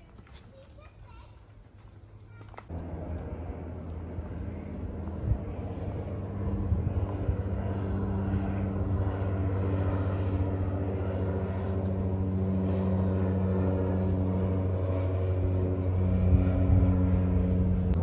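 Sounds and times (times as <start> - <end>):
engine drone: 2.4 - 18.0.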